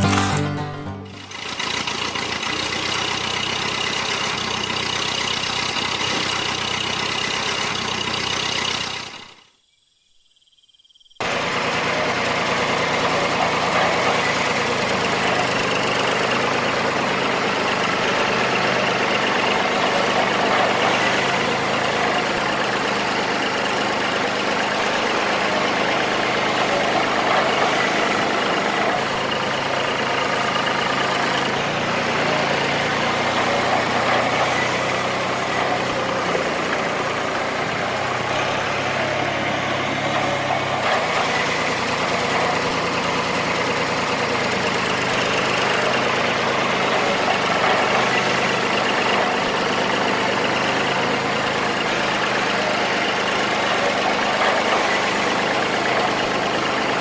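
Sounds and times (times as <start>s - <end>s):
tractor engine idling: 0.0s - 9.4s, 11.2s - 57.0s.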